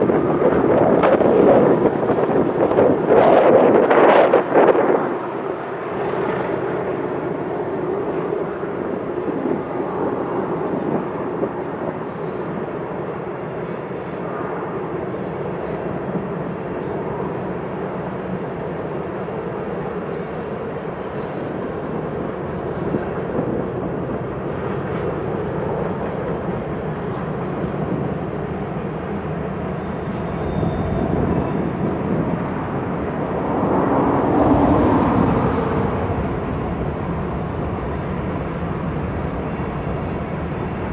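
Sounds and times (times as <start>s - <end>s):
freight train rumbling: 0.0s - 40.9s.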